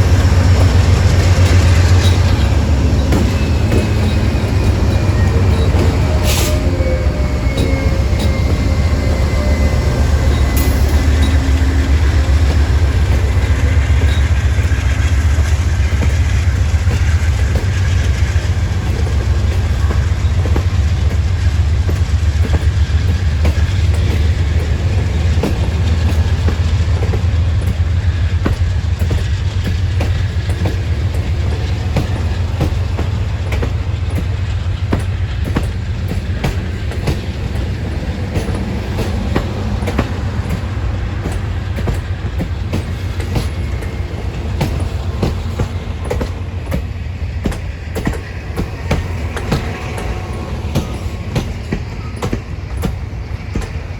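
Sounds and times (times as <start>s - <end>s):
train rumbling by: 0.0s - 53.9s
wheels clicking over rail joints: 0.0s - 53.9s.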